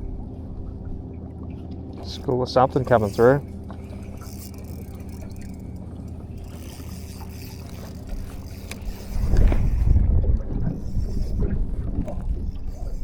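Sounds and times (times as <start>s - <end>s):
boat motor hum: 0.0s - 13.0s.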